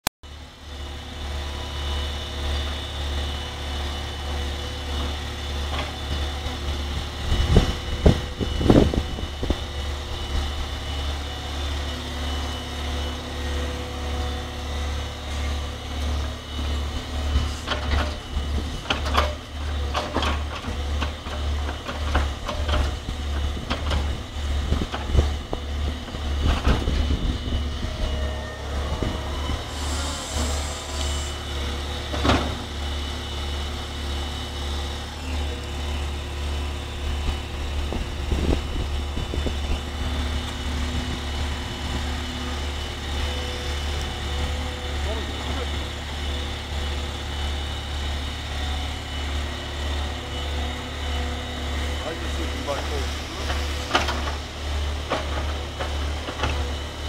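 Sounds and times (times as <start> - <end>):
excavator diesel engine running: 0.3 - 57.0.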